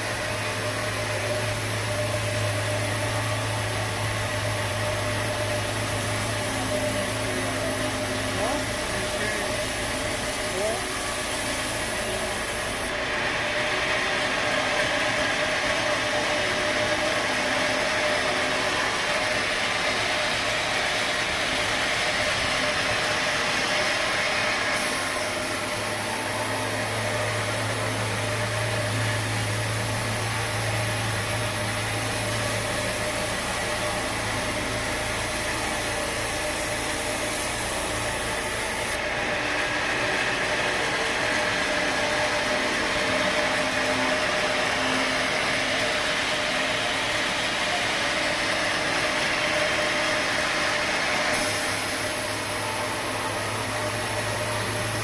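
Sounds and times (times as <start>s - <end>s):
saw cutting through timber: 0.0s - 55.0s
sawmill machinery running: 0.0s - 55.0s.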